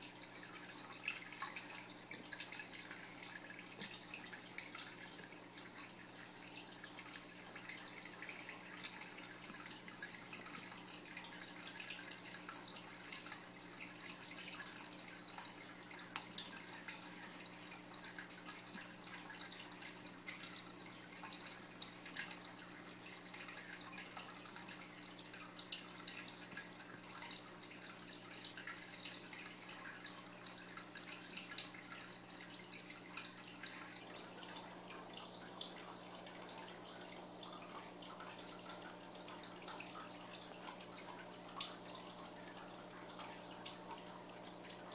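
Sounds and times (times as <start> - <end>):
low electrical hum: 0.0 - 44.9
water trickling and dripping: 0.0 - 44.9.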